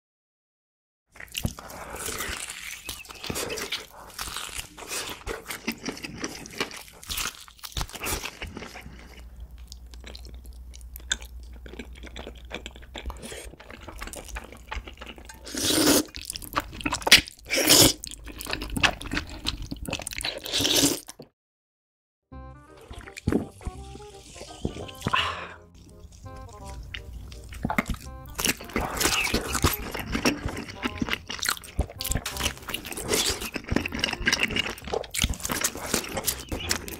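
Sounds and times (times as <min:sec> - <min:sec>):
wet chewing: 0:01.1 - 0:21.1, 0:22.7 - 0:36.9
crunchy bites: 0:01.2 - 0:21.2, 0:23.0 - 0:36.9.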